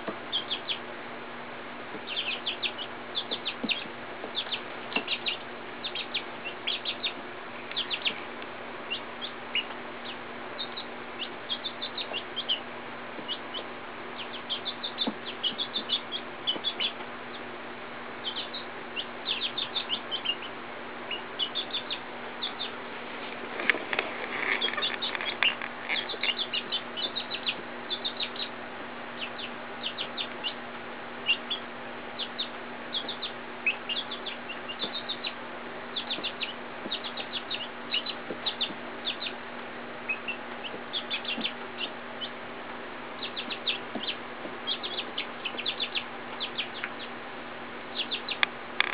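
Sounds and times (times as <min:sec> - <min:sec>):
chicks peeping: 0:00.0 - 0:01.0, 0:01.8 - 0:42.5, 0:43.1 - 0:47.2, 0:47.8 - 0:48.9.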